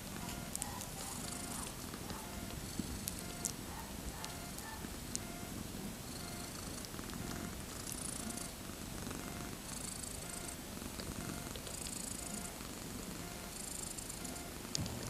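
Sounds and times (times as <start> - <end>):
cat purring: 0.0 - 15.0
faint rustling hiss: 0.0 - 15.0.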